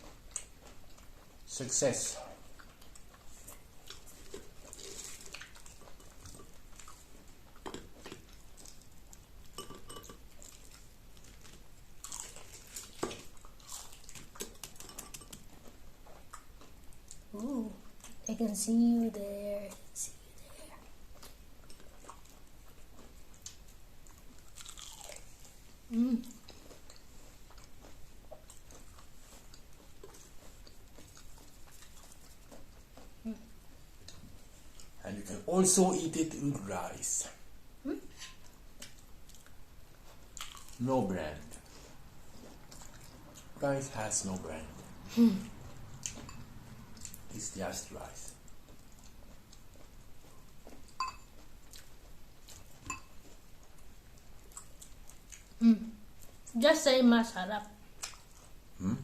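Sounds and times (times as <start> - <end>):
crunchy chewing: 2.4 - 17.3, 20.8 - 35.0, 38.1 - 40.8, 41.4 - 56.5, 57.9 - 59.0.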